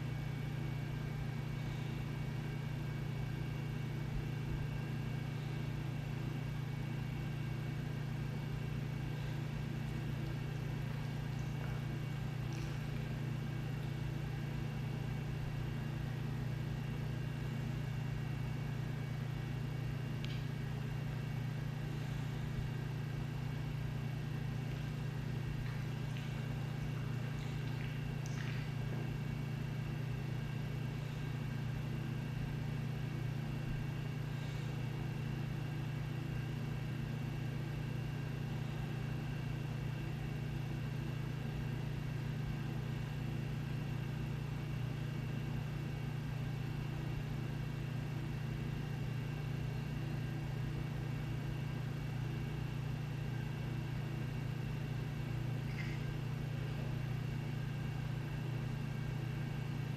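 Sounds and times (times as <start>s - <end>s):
low household hum: 0.0s - 59.9s.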